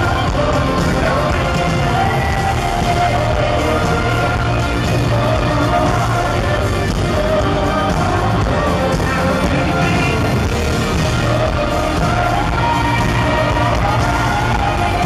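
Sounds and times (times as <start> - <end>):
bass guitar: 0.0 - 15.0
drums: 0.0 - 15.0
electric guitar: 0.0 - 15.0
person singing lead vocal: 0.0 - 15.0.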